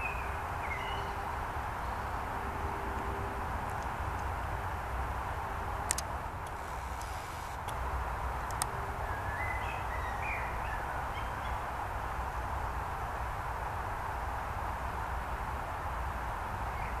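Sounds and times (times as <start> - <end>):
woodland background noise: 0.0 - 17.0.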